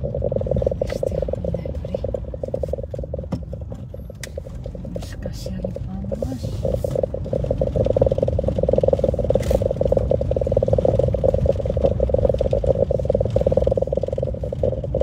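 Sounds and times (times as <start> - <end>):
car engine pulsing buzz: 0.0 - 15.0
road rumble: 0.0 - 15.0.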